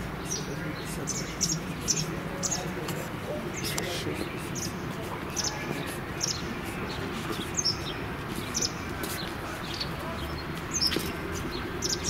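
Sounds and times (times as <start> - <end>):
outdoor background hum: 0.0 - 12.0
small songbirds chirping: 0.0 - 12.0.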